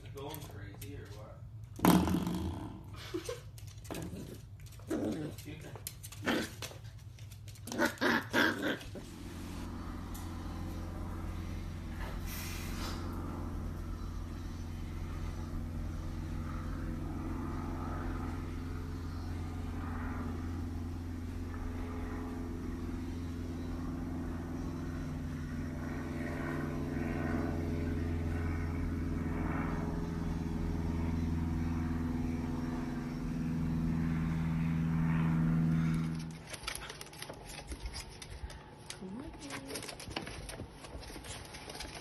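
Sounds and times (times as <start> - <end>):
motor droning hum: 0.0 - 42.0.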